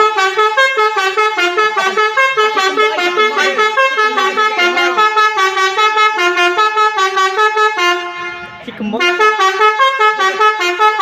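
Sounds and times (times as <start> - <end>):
bus horn playing melody: 0.0 - 11.0.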